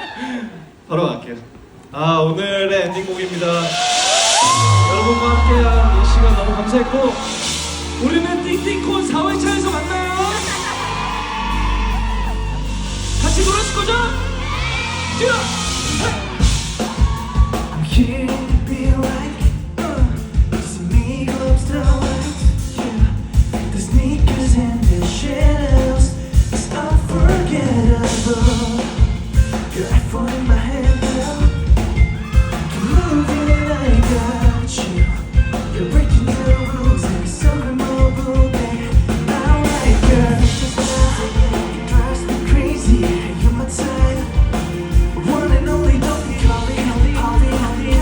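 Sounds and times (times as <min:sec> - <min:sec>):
live pop-rock band: 0:03.0 - 0:48.0
person singing: 0:03.8 - 0:48.0.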